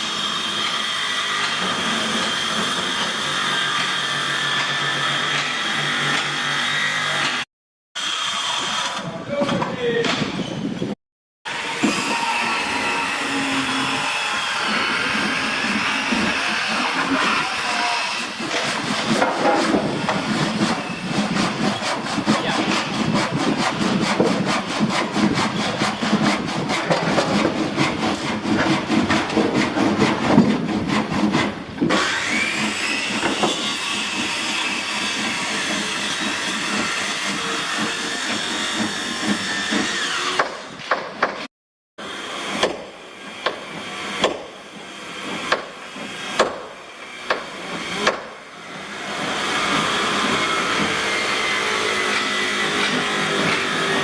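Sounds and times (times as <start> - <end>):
power tool cutting wood: 0.0 - 9.2, 11.5 - 40.8, 42.0 - 54.0.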